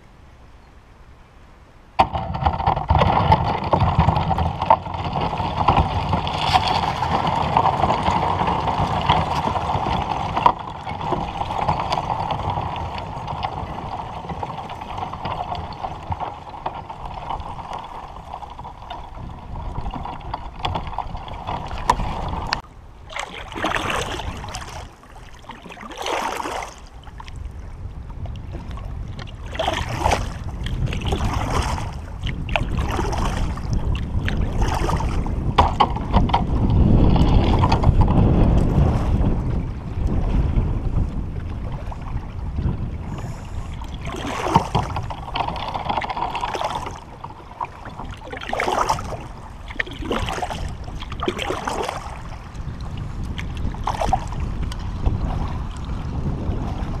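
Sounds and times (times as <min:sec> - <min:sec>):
paddle splashes: 0:01.9 - 0:57.0
ice crackling against kayak hull: 0:02.0 - 0:57.0.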